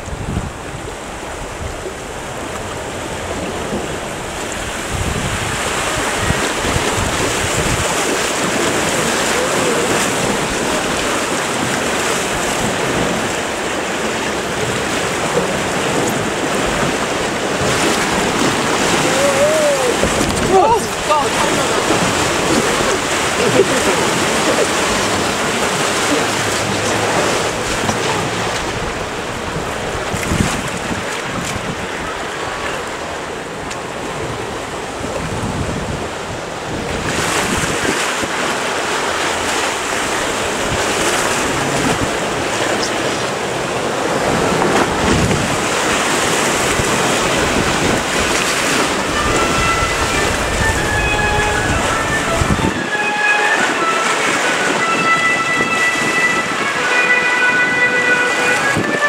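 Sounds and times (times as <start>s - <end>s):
whitewater rushing: 0.0s - 59.0s
wind buffeting microphone: 0.0s - 59.0s.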